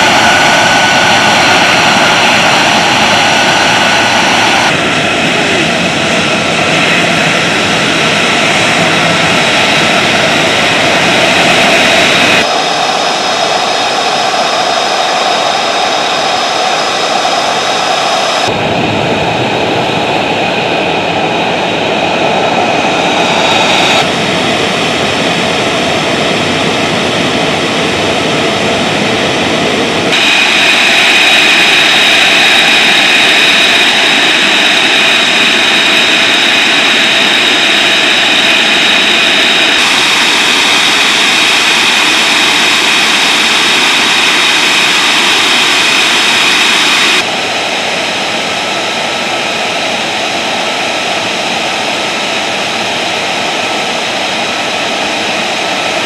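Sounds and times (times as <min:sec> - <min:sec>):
jet engine whine and rush: 0:00.0 - 0:56.0.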